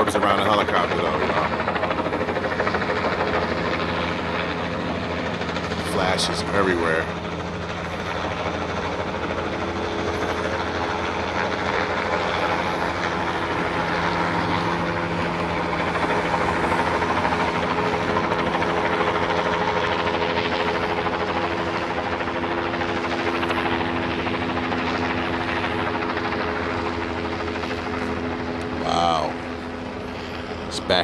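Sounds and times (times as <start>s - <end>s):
helicopter rotor drone: 0.0s - 31.0s.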